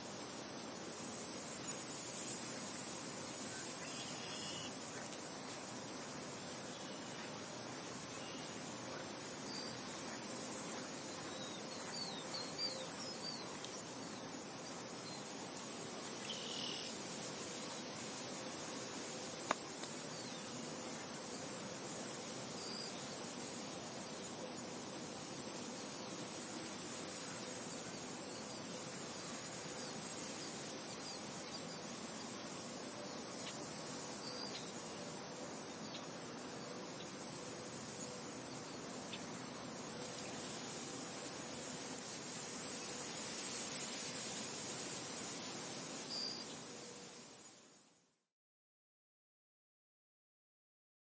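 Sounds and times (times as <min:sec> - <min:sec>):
steady wind hiss: 0:00.0 - 0:48.3.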